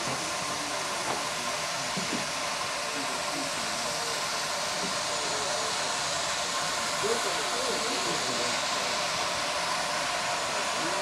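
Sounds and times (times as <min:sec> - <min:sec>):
steam hissing: 0:00.0 - 0:11.0
steam locomotive moving slowly: 0:00.0 - 0:11.0.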